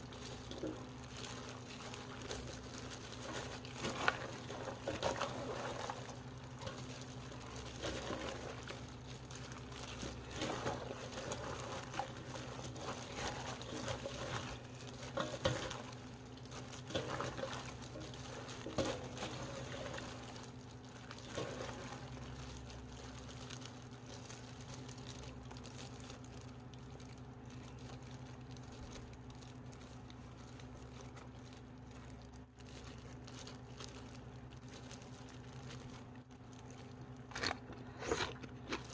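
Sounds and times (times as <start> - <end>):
low electrical hum: 0.0 - 38.9
soft wet rustling of greens: 0.0 - 38.9.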